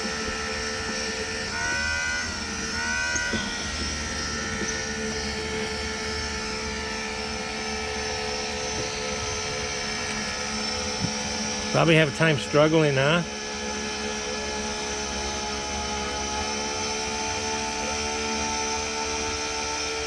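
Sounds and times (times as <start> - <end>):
electric water pump humming: 0.0 - 20.0.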